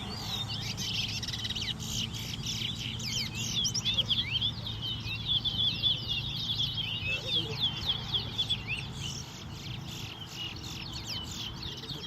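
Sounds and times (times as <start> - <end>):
finches chirping and twittering: 0.0 - 12.0.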